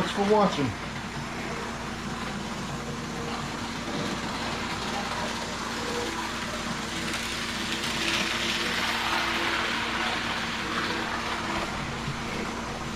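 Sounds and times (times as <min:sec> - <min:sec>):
model locomotive motor hum: 0:00.0 - 0:12.9.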